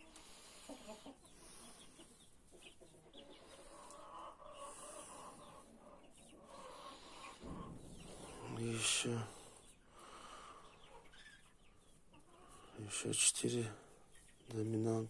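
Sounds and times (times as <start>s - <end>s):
chickens clucking faintly: 0.0s - 15.0s.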